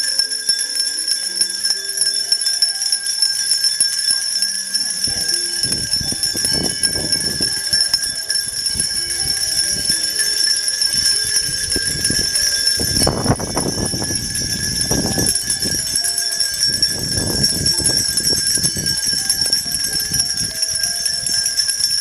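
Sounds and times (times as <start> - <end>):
handbells jingling: 0.0 - 22.0.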